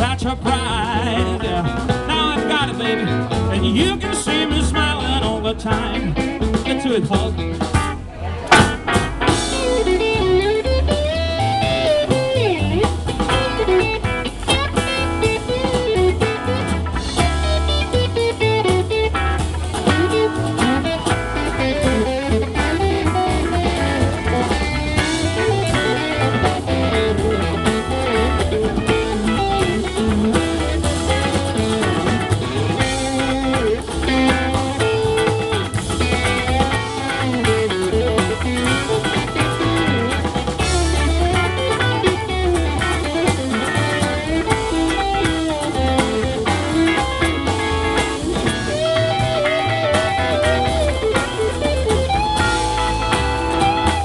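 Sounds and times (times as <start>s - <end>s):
live blues band playing: 0.0s - 54.0s.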